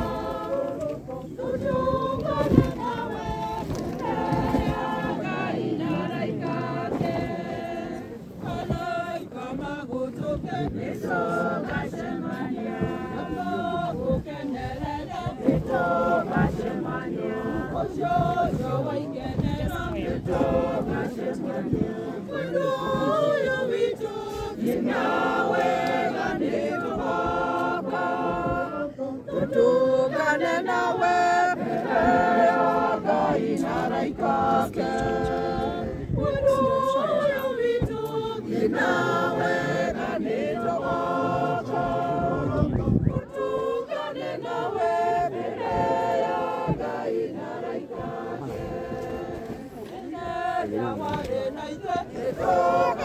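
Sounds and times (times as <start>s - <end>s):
group singing without instruments: 0.0s - 53.0s.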